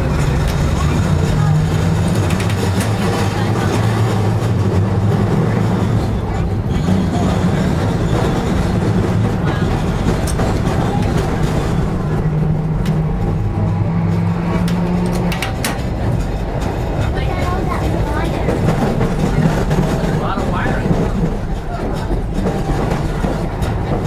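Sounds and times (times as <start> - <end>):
trolley car low hum: 0.0 - 24.0.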